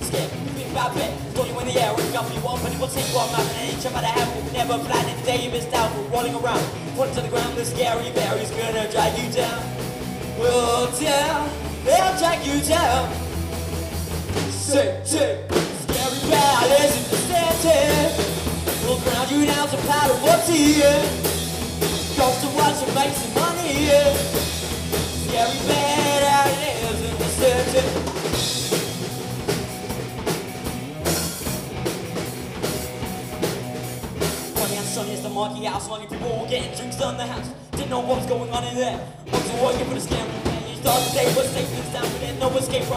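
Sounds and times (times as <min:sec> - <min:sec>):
lead vocal singing: 0:00.0 - 0:13.3, 0:14.4 - 0:28.4, 0:34.6 - 0:42.9
bass guitar: 0:00.0 - 0:42.9
drum kit: 0:00.0 - 0:42.9
electric guitar: 0:00.0 - 0:42.9.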